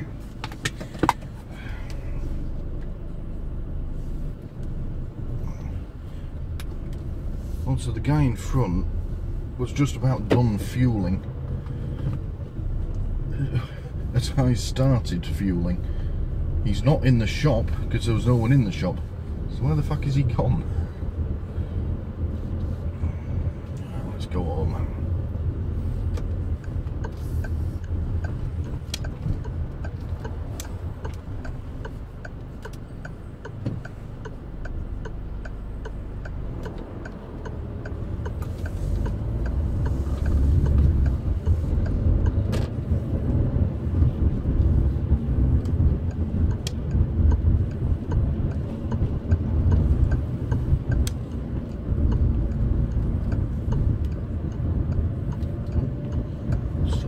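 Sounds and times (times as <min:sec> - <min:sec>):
car engine and road rumble: 0:00.0 - 0:57.0
turn indicator clicking: 0:00.0 - 0:57.0.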